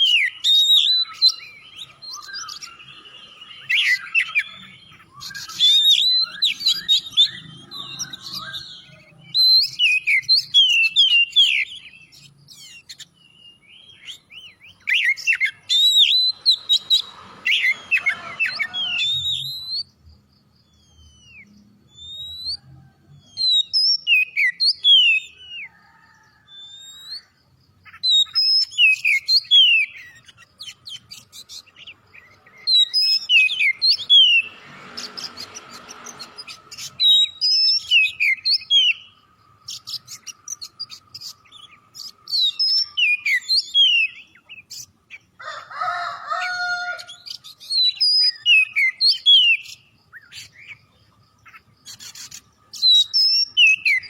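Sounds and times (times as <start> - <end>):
bird song whistles and chirps: 0.0 - 45.3, 46.3 - 54.0.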